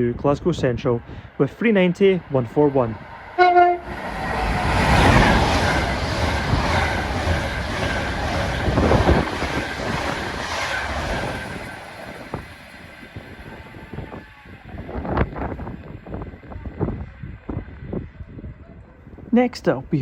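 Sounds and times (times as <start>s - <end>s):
electric train passing: 0.5s - 18.2s.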